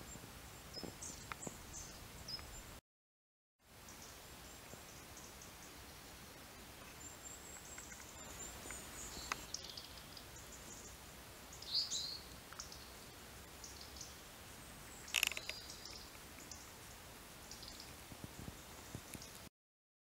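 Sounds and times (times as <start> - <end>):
faint steady hiss: 0.0 - 2.8, 3.6 - 19.5
small birds chirping: 0.0 - 2.8, 3.8 - 19.5.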